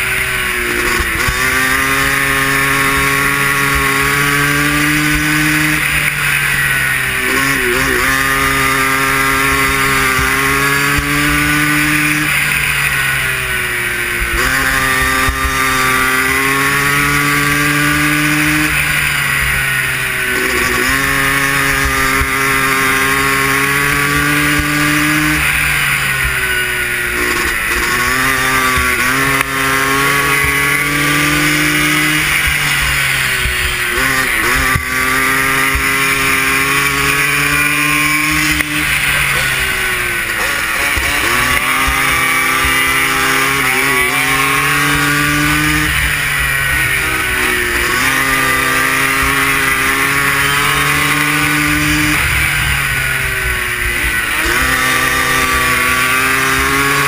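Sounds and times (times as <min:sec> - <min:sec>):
atv engine revving hard: 0:00.0 - 0:57.0.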